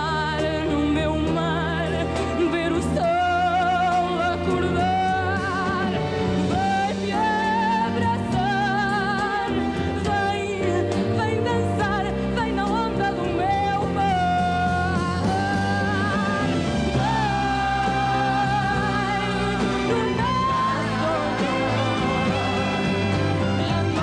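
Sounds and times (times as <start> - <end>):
live orchestra: 0.0 - 24.0
woman singing with vibrato: 0.0 - 24.0.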